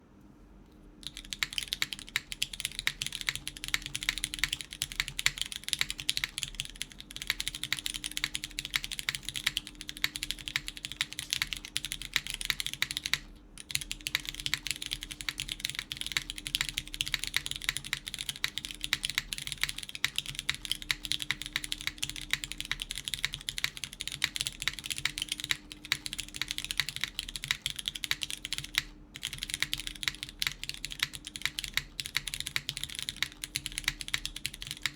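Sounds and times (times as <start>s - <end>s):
mechanical keyboard typing: 1.0s - 34.9s.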